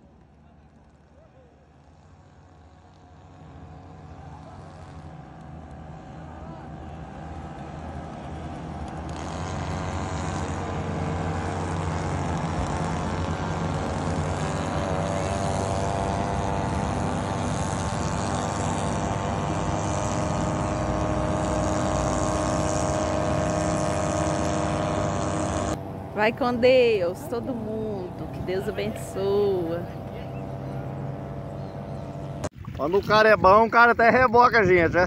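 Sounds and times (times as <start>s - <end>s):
engine running steadily: 0.0s - 35.0s.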